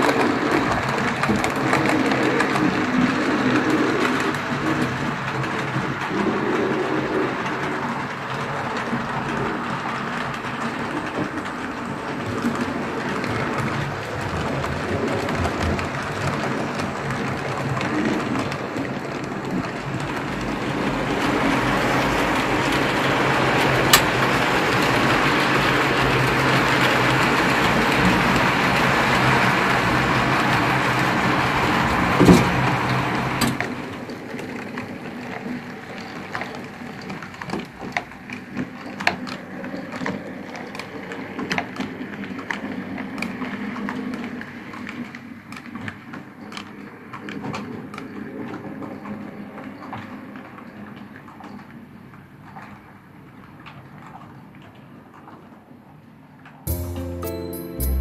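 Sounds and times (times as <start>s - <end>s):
wheels clicking over rail joints: 0.0s - 56.6s.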